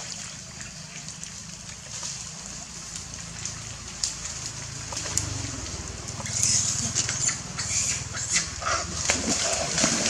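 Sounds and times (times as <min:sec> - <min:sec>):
low motor hum: 0:00.0 - 0:10.0
monkey splashing in pond water: 0:00.0 - 0:10.0.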